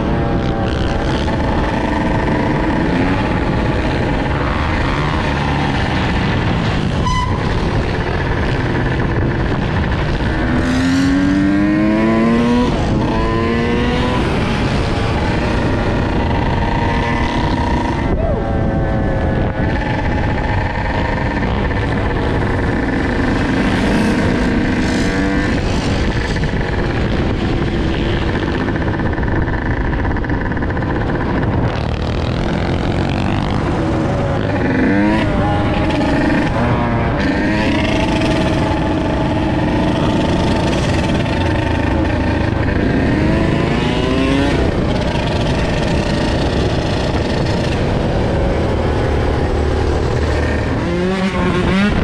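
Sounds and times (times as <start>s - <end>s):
dirt bike engine revving: 0.0s - 52.0s
other bikes and atvs: 0.0s - 52.0s.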